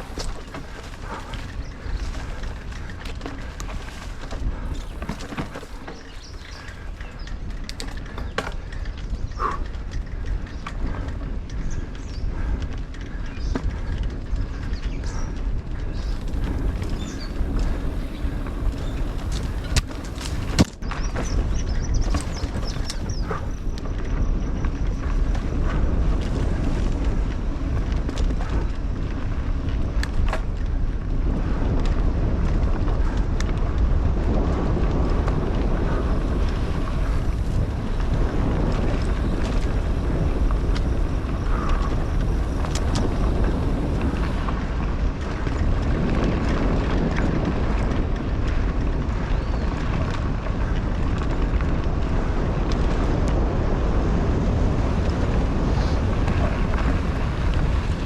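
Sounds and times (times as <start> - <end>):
bike clicks and rattles: 0.0 - 58.0
mountain bike rolling on dirt: 0.0 - 58.0
wind buffeting microphone: 0.0 - 58.0.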